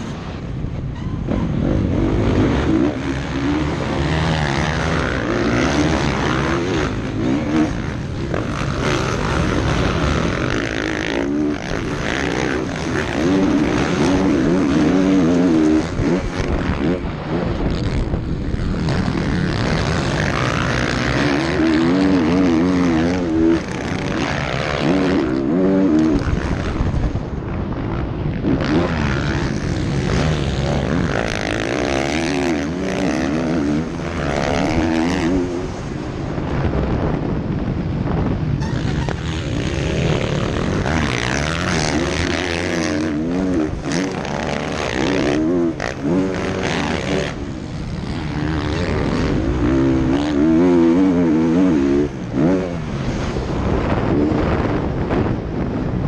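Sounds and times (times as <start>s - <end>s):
motocross bike engine revving: 0.0s - 37.4s, 38.5s - 55.4s.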